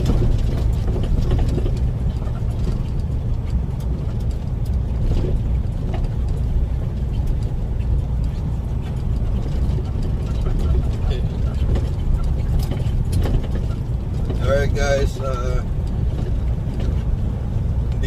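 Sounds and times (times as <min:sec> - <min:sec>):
truck engine low rumble: 0:00.0 - 0:18.0.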